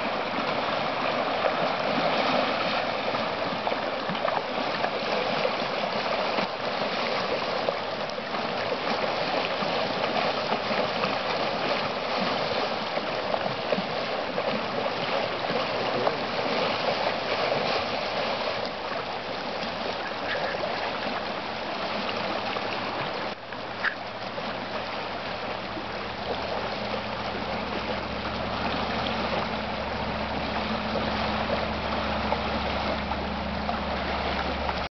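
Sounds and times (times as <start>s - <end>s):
low steady hum: 0.0s - 34.9s
water rushing: 0.0s - 34.9s.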